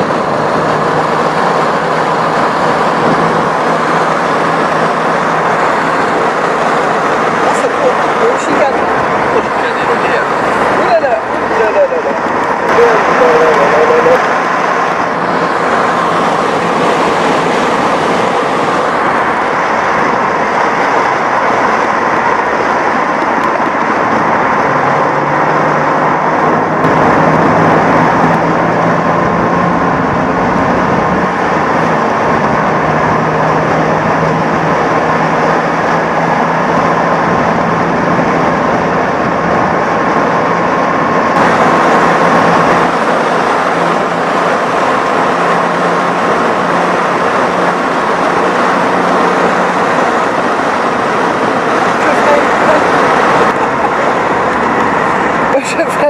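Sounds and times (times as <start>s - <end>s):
car engine running: 0.0s - 56.0s
road noise: 0.0s - 56.0s
wind rush: 0.0s - 56.0s.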